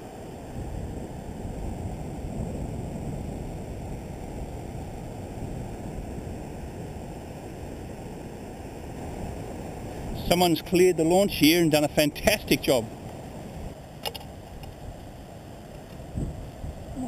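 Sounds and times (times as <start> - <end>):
surf breaking on beach: 0.0 - 17.0
wind rumbling on microphone: 0.0 - 17.0.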